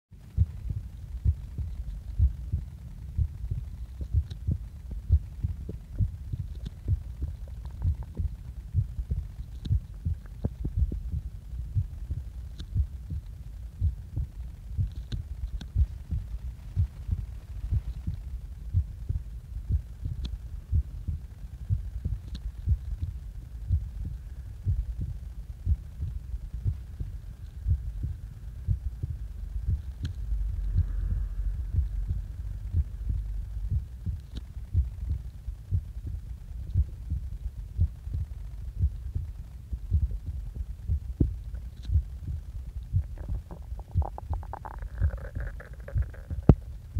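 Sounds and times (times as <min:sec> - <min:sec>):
heart beating: 0:00.3 - 0:46.9.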